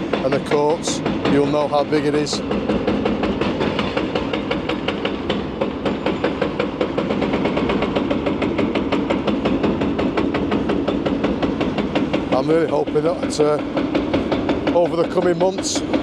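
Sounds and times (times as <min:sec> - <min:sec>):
hydraulic breaker hammering concrete: 0:00.0 - 0:16.0.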